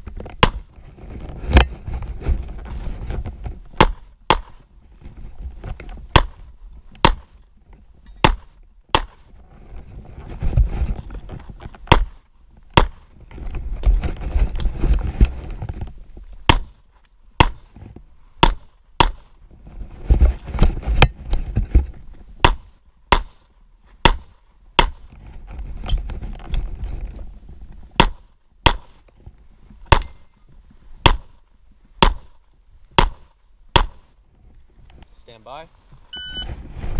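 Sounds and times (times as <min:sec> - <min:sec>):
rustling movement: 0:00.0 - 0:36.9.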